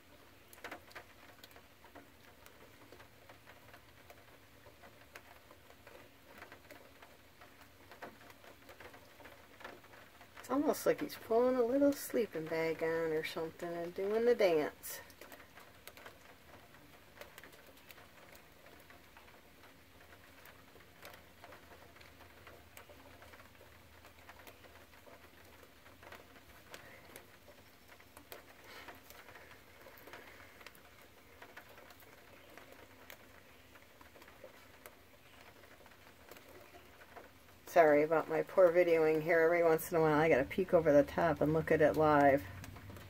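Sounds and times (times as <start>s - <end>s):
faint ticks and patters: 0.0s - 43.0s.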